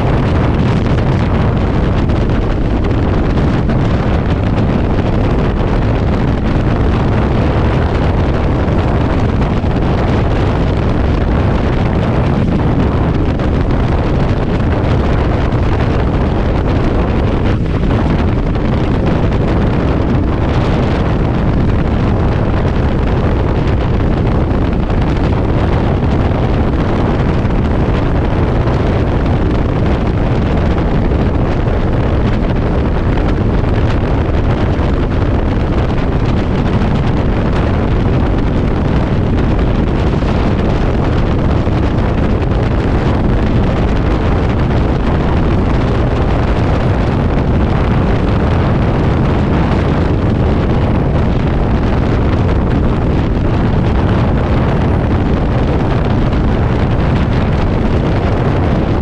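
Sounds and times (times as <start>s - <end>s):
motorcycle riding at speed: 0.0s - 59.0s
wind buffeting microphone: 0.0s - 59.0s.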